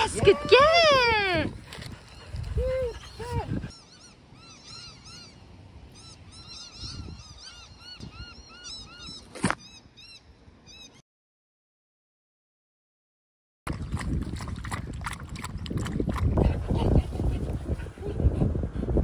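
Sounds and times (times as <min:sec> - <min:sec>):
outdoor background noise: 0:00.0 - 0:11.0, 0:13.7 - 0:19.0.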